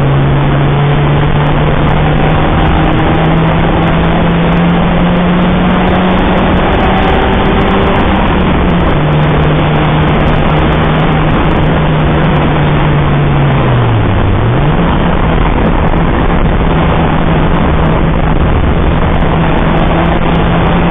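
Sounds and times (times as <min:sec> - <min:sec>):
car engine revving hard: 0:00.0 - 0:20.9
wind and road noise: 0:00.0 - 0:20.9.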